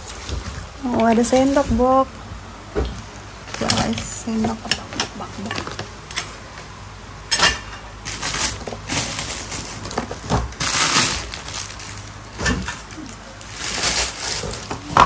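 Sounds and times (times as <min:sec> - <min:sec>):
rustling plastic and cardboard: 0:00.0 - 0:02.1, 0:02.7 - 0:06.6, 0:08.0 - 0:15.0.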